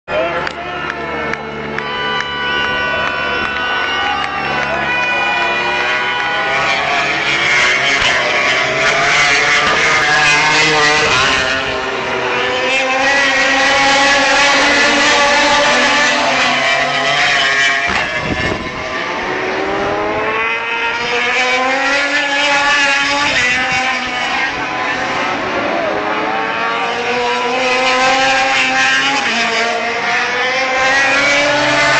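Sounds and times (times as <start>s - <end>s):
racing motorcycles passing: 0.1s - 31.9s.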